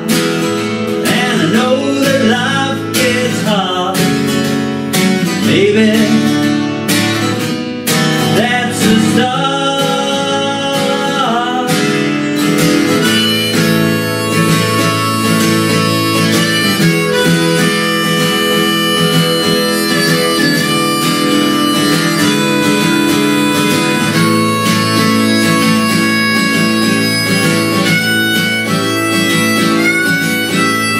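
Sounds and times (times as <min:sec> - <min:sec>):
harmonica with bent notes: 0:00.0 - 0:30.9
strummed acoustic guitar: 0:00.0 - 0:30.9.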